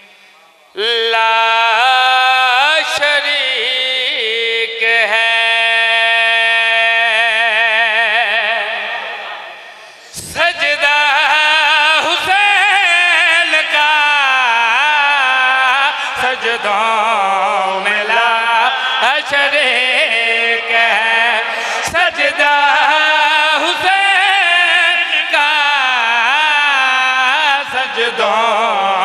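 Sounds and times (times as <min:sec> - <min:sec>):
man chanting: 0:00.0 - 0:29.0.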